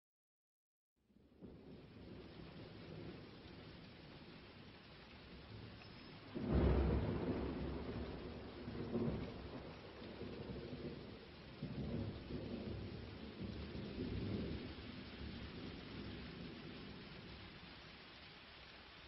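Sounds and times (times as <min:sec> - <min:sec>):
thunder clap and rumble: 0:01.3 - 0:17.7.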